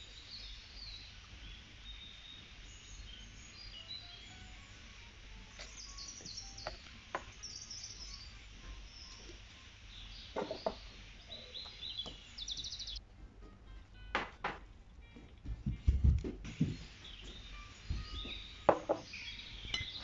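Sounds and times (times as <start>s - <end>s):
small birds chirping and trilling: 0.0s - 13.0s, 16.5s - 20.0s.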